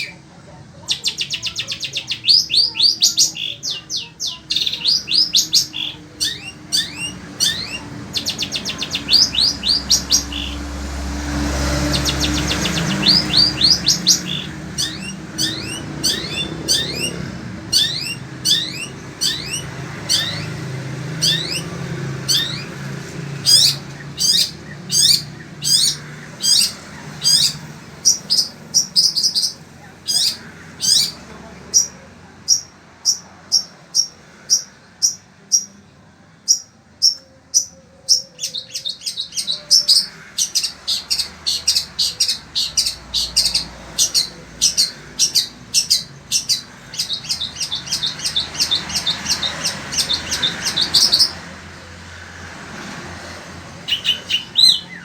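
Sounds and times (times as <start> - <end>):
shrike singing sharp chirps: 0.8 - 35.8, 36.4 - 51.6, 53.8 - 55.0.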